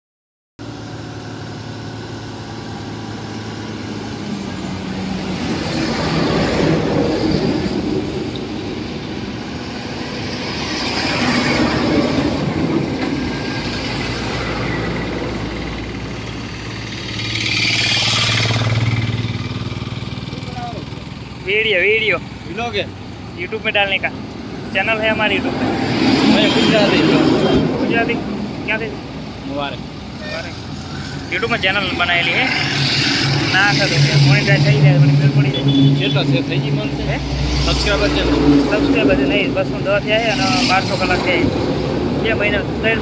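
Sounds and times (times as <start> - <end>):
heavy diesel machinery running: 0.6 - 43.0.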